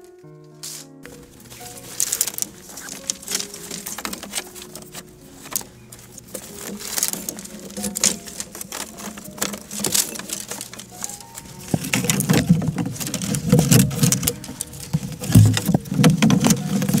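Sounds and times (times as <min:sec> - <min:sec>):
bamboo strips clattering: 0:00.0 - 0:17.0.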